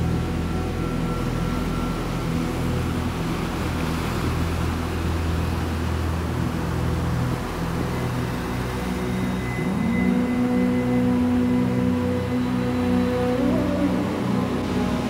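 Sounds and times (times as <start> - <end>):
slow ambient music: 0.0 - 15.0.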